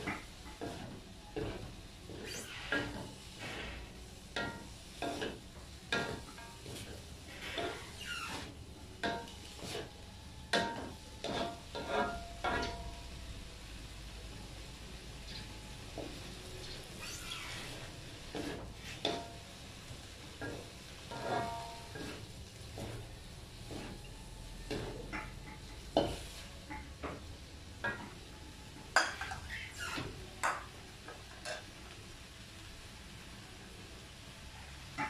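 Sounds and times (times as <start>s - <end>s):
spatula scraping wok: 0.0s - 12.9s, 15.3s - 31.7s
frying sizzle: 0.0s - 35.0s.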